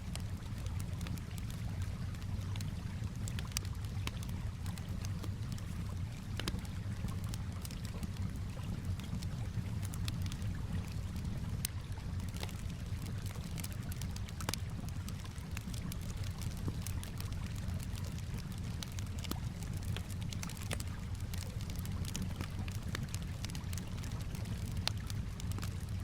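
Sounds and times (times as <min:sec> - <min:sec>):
calm water washing: 0:00.0 - 0:26.0
campfire crackling and popping: 0:00.0 - 0:26.0.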